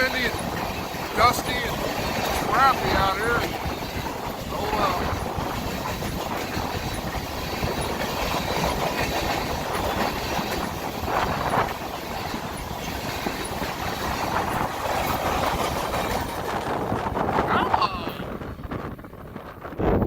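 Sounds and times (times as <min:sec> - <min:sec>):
train wheels clattering on rails: 0:00.0 - 0:19.8
wind noise on microphone: 0:00.0 - 0:20.0.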